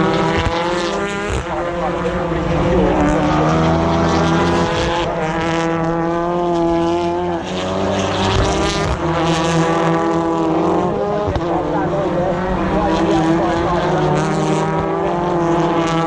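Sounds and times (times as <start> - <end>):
race car engines running hard: 0.0 - 16.0.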